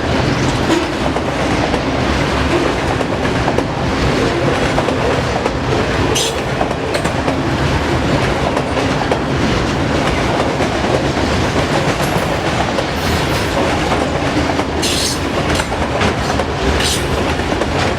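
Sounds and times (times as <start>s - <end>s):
train wheels clattering over rails: 0.0s - 17.9s.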